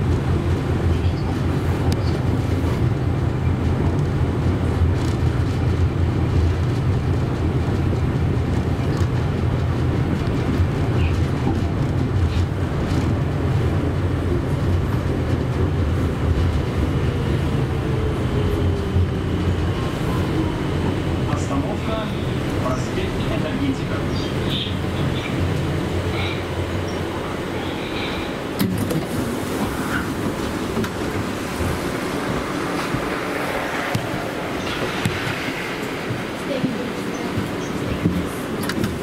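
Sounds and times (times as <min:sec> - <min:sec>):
tram wheels rumbling: 0:00.0 - 0:39.0.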